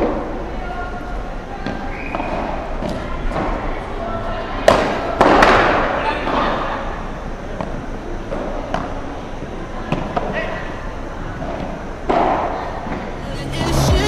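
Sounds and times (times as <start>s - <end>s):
crowd noise: 0.0s - 14.0s.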